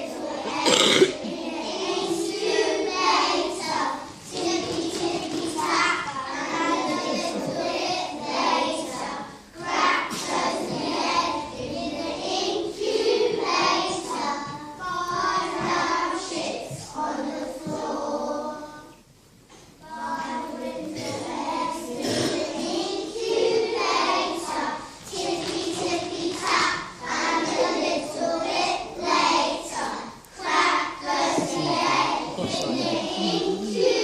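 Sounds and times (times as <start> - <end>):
children singing together: 0.0 - 34.0.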